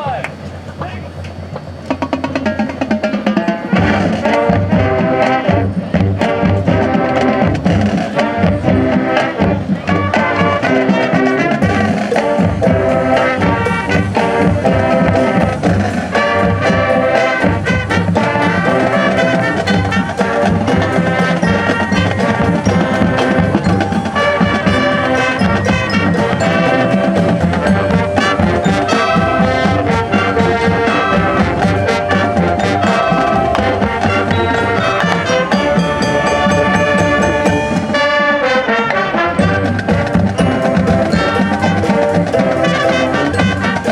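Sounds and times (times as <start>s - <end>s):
drumline: 0.0s - 43.9s
marching band brass: 0.0s - 43.9s
marimba and xylophone: 1.8s - 43.9s.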